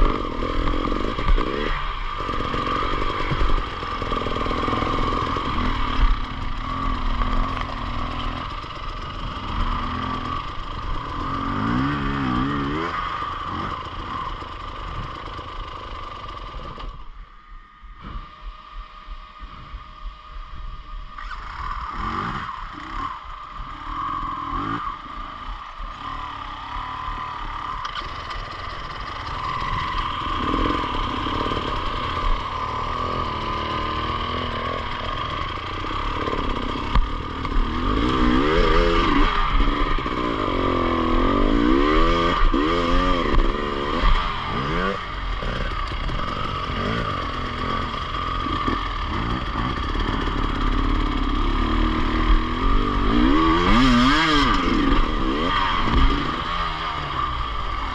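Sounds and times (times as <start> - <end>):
motorcycle engine revving: 0.0 - 17.2, 20.8 - 57.9.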